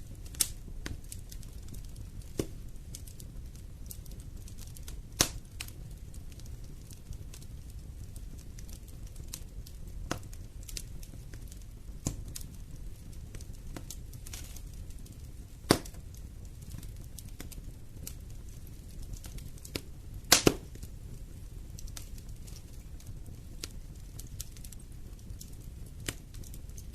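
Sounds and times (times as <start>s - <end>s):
fire popping: 0.0s - 26.9s
wood fire crackling: 0.0s - 26.9s.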